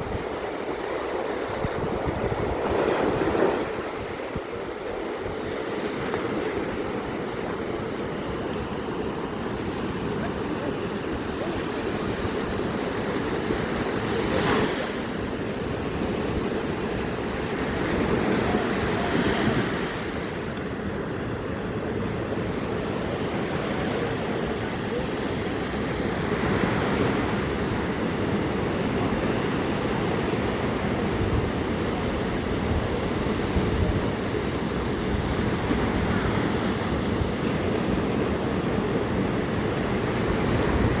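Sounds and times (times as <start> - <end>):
sea waves washing ashore: 0.0 - 41.0
wind on microphone: 0.0 - 41.0.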